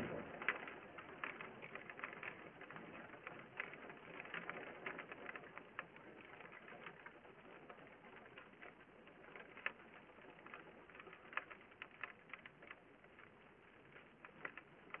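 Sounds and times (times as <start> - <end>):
raindrops striking camera: 0.0 - 15.0.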